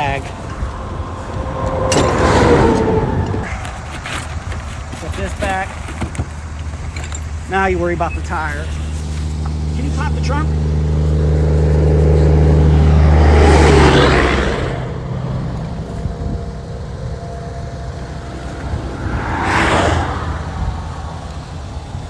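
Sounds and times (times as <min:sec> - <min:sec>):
vehicle whooshing past: 0:00.0 - 0:04.3, 0:08.4 - 0:22.0
vehicle engine drone passing: 0:00.0 - 0:04.9, 0:07.3 - 0:22.0
highway traffic passing: 0:00.0 - 0:22.0.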